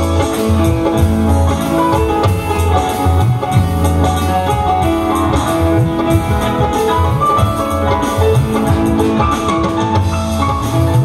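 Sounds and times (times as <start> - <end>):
band music over sound system: 0.0 - 11.0
drum beat: 0.0 - 11.0
held keyboard and guitar notes: 0.0 - 11.0.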